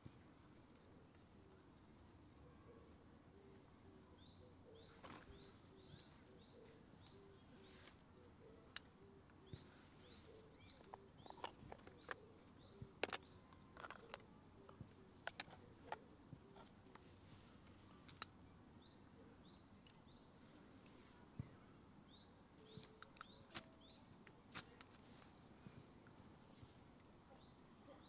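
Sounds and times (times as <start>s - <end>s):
bird chirping: 1.8s - 28.0s.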